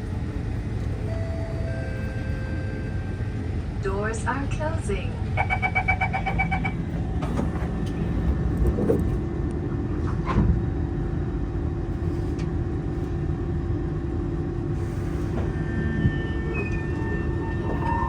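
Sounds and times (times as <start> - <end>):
steady train hum: 0.0 - 18.0
train low rumble: 0.0 - 18.0.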